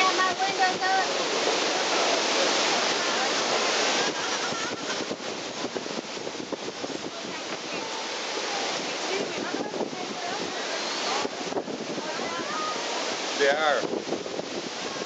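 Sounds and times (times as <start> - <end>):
storm wind through trees: 0.0 - 15.0.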